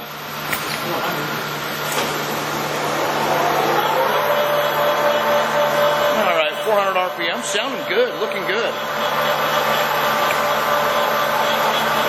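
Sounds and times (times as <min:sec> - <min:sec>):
lathe running hum: 0:00.0 - 0:12.0
gearing whirr: 0:00.8 - 0:12.0.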